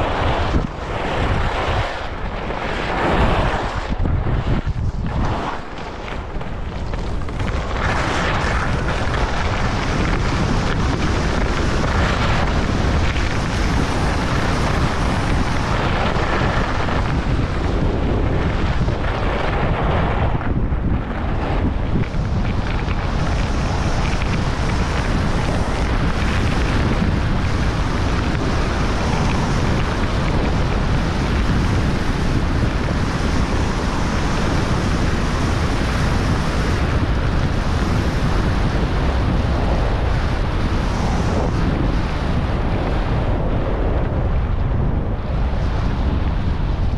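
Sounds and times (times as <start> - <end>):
skis scraping over packed snow: 0.0 - 46.9
wind buffeting microphone: 0.0 - 46.9.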